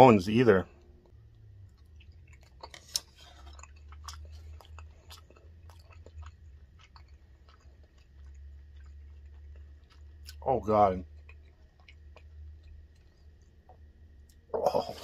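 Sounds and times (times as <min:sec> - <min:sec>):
steady low hum: 0:00.0 - 0:15.0
person chewing: 0:00.7 - 0:15.0.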